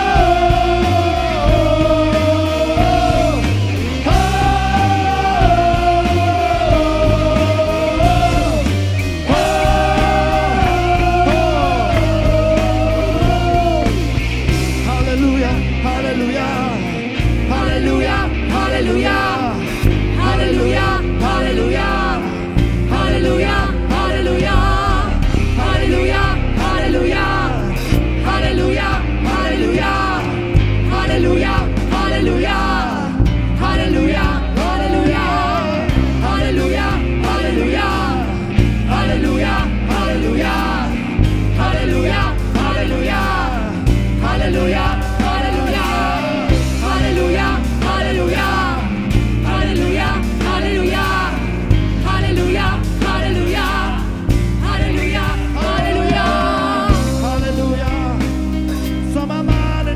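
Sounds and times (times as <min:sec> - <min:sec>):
low bass notes: 0:00.0 - 0:59.9
person singing: 0:00.0 - 0:59.9
worship band music: 0:00.0 - 0:59.9.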